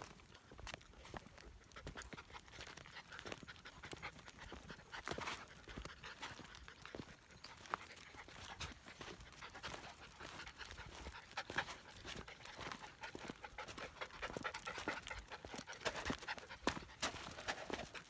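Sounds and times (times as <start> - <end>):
footsteps on path: 0.0 - 18.0
puppies panting: 0.0 - 18.0.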